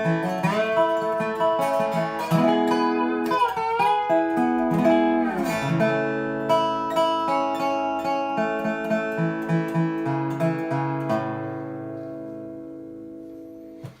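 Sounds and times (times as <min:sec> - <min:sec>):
resonator guitar picked notes: 0:00.0 - 0:14.0.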